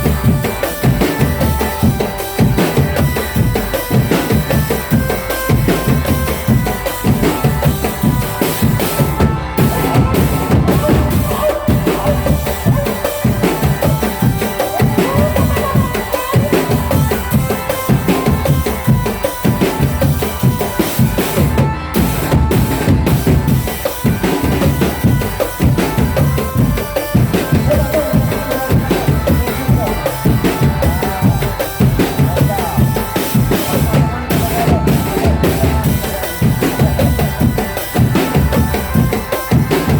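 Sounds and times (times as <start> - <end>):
bass drums beating: 0.0 - 39.9.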